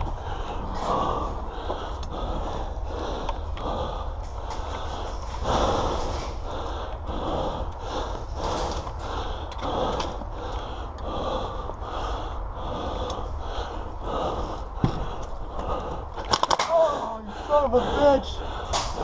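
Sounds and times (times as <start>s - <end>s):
low rumble: 0.0s - 19.0s
person breathing heavily: 0.0s - 19.0s.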